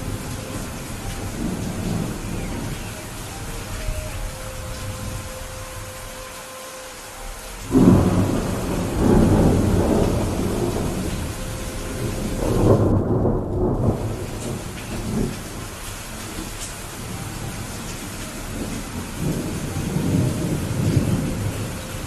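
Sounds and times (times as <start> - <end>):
thunder clap and rumble: 0.0 - 5.8, 7.6 - 22.0
steady rain hissing: 0.0 - 22.0.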